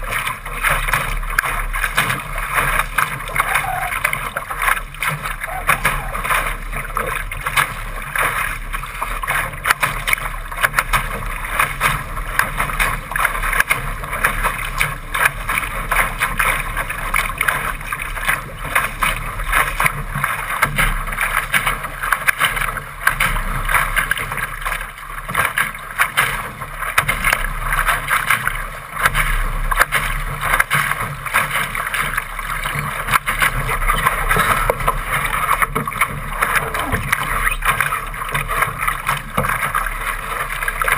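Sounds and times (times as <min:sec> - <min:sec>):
water rushing along a hull: 0:00.0 - 0:40.9
waves slapping a hull: 0:00.0 - 0:40.9.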